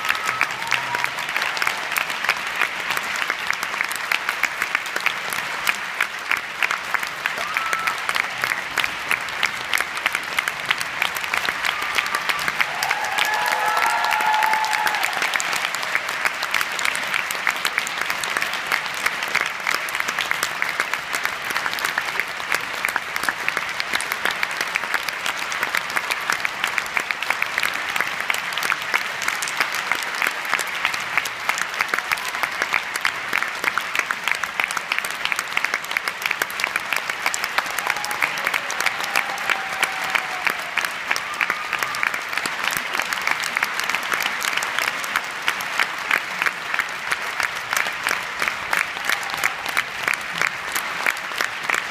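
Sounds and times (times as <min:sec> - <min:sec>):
audience applauding: 0:00.0 - 0:51.9.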